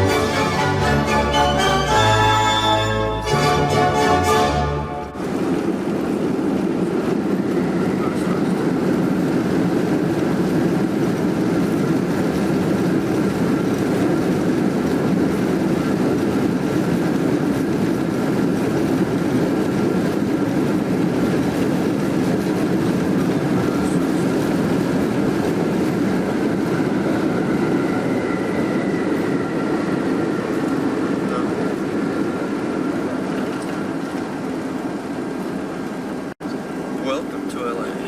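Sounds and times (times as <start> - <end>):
airplane cabin roar: 0.0 - 38.0.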